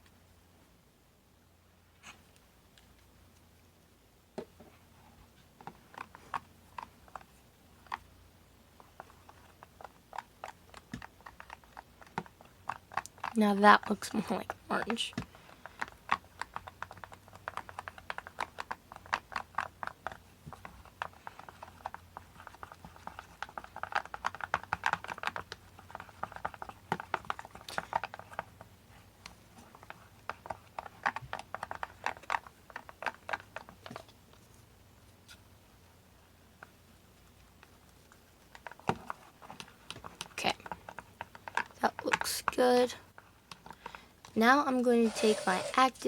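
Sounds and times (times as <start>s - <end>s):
slime being stirred: 4.7s - 34.5s, 36.5s - 46.0s.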